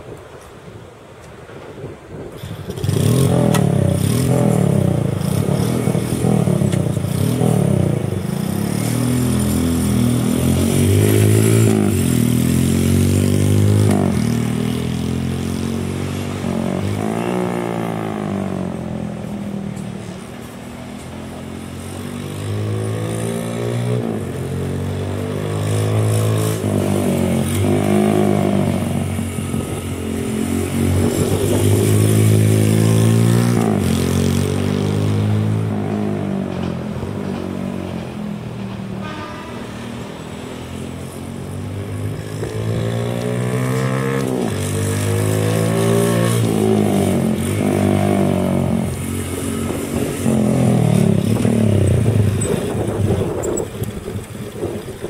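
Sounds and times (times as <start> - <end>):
minibike engine revving: 2.4 - 38.1, 40.1 - 55.0.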